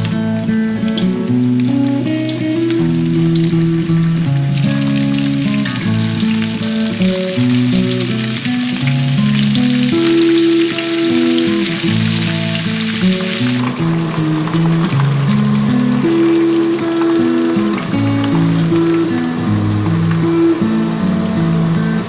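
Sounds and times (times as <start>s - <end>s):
food deep-frying in hot oil: 0.0s - 21.8s.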